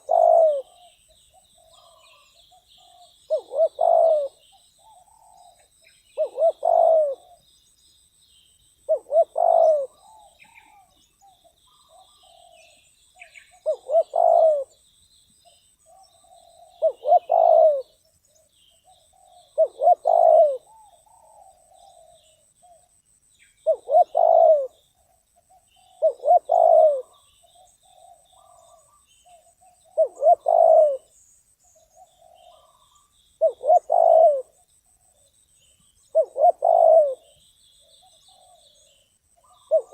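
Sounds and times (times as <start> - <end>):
dove cooing: 0.0 - 7.4, 8.9 - 14.8, 15.9 - 18.0, 18.8 - 23.0, 23.6 - 31.1, 31.8 - 35.3, 36.1 - 39.9
small birds chirping: 0.0 - 39.9.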